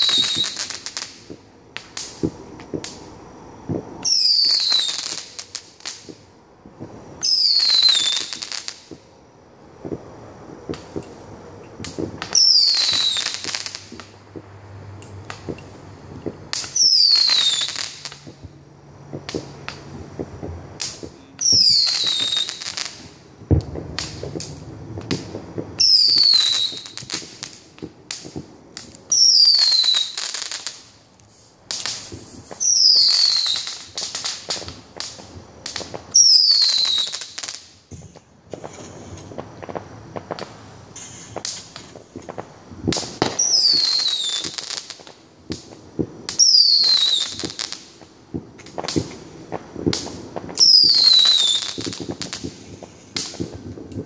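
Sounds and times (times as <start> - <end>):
firework crackle bursts: 0.0 - 54.0
firework pops and crackles: 0.0 - 54.0
whistling firework shots: 0.0 - 54.0.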